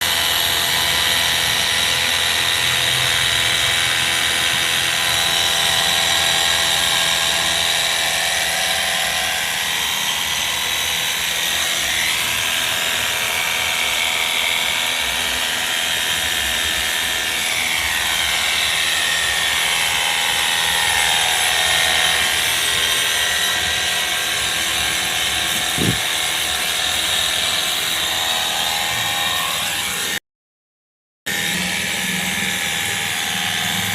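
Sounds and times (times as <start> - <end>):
pressure washer running: 0.0 - 30.2, 31.3 - 33.9.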